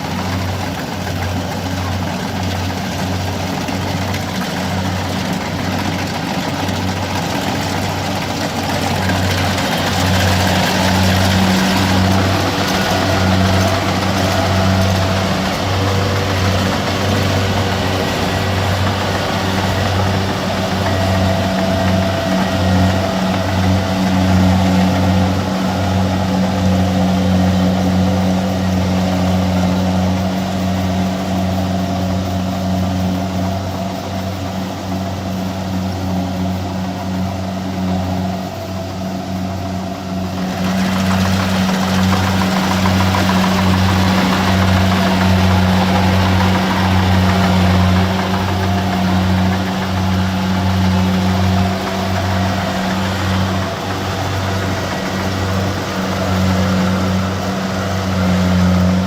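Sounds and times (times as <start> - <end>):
harvester engine humming: 0.0 - 59.0
high-pitched mechanical noise: 0.0 - 59.0.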